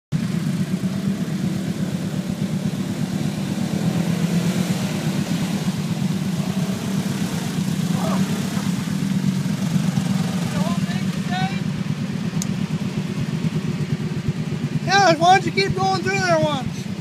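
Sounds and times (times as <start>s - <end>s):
quad bike engine running: 0.1s - 17.0s.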